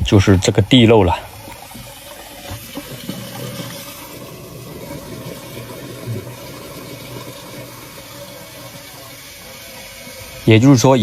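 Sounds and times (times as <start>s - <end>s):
water running into drain: 0.0s - 11.0s.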